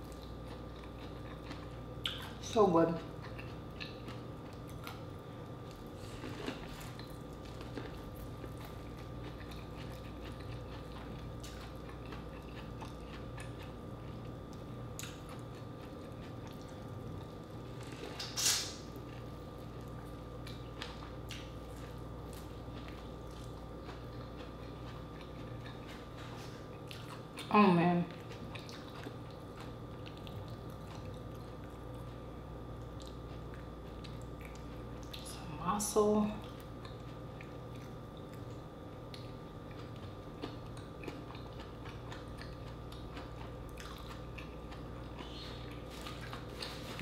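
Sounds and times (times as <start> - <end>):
person chewing: 0.0 - 2.4, 3.0 - 27.5, 28.1 - 35.2, 36.4 - 47.0
steady electrical hum: 0.0 - 47.0.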